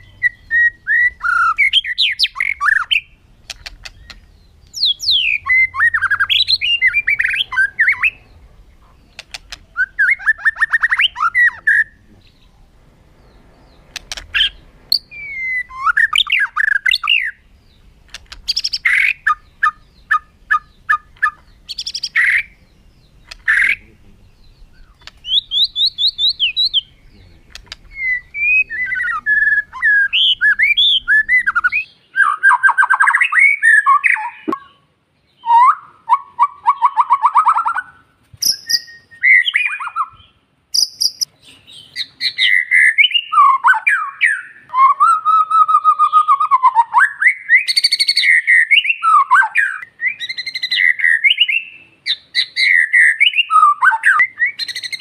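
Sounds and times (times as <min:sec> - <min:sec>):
songbird singing whistles and trills: 0:00.0 - 0:55.0.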